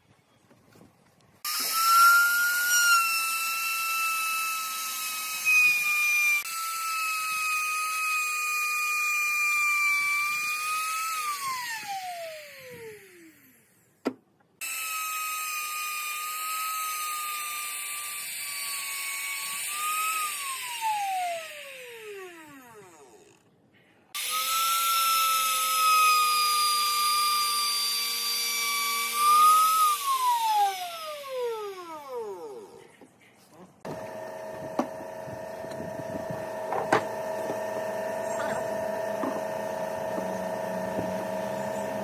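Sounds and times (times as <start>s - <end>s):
electric power tool motor whining: 1.4s - 14.0s, 14.6s - 23.5s, 24.2s - 32.8s, 33.8s - 42.0s.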